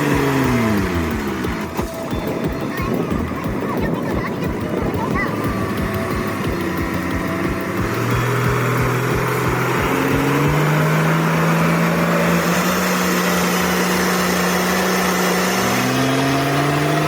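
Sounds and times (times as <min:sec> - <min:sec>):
truck engine running under load: 0:00.0 - 0:17.0.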